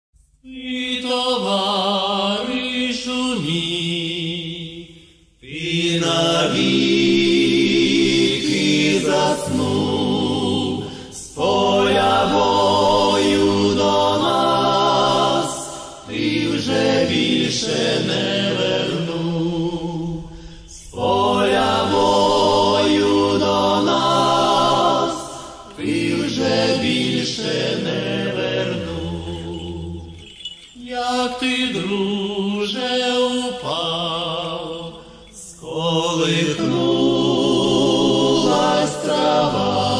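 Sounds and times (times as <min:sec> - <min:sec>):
choir singing a mournful chant: 0:00.5 - 0:39.9.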